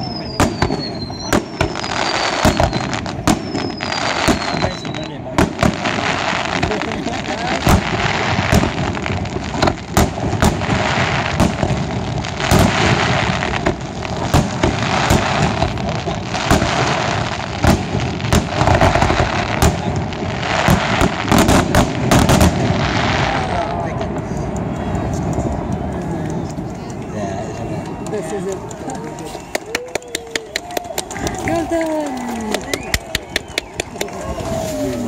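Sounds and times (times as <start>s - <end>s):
fireworks bursts and bangs: 0.0s - 35.0s.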